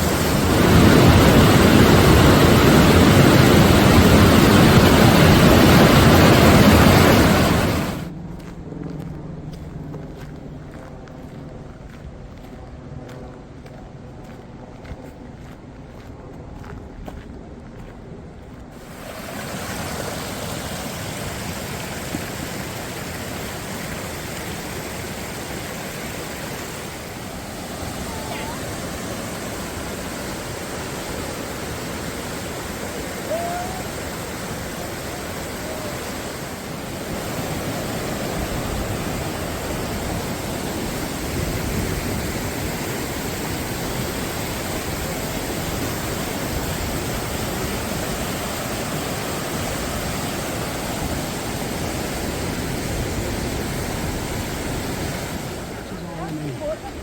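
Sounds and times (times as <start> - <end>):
waterfall roaring: 0.0 - 8.1, 18.8 - 57.0.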